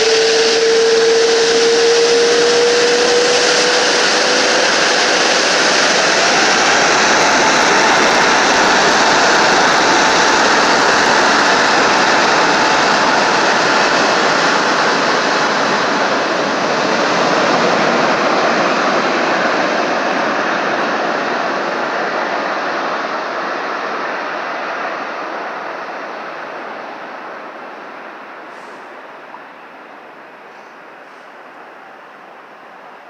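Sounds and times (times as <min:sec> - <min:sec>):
high engine whine: 0:00.0 - 0:33.0
jet engines running: 0:00.0 - 0:33.0.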